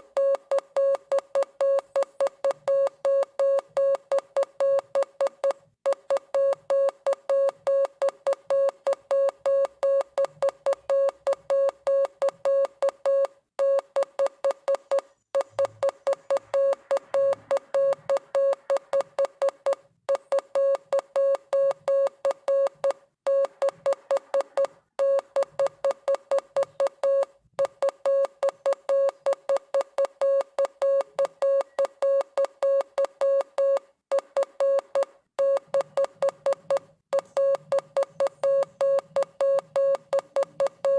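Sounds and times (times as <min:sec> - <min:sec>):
morse code beeps: 0:00.2 - 0:40.9.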